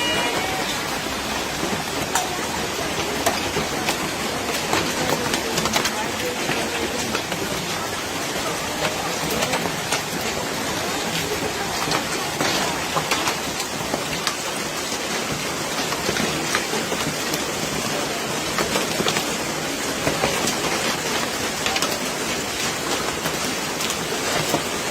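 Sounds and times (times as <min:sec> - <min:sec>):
hailstones ticking on hard surfaces: 0:00.0 - 0:24.9
pouring rain hiss: 0:00.0 - 0:24.9.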